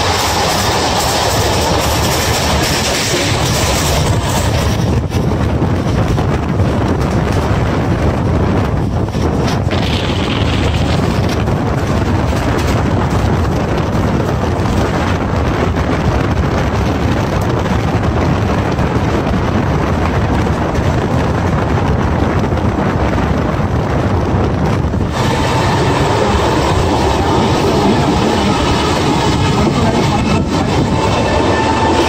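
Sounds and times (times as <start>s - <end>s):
train coaches rumbling on track: 0.0s - 32.0s
wind buffeting microphone: 0.0s - 32.0s.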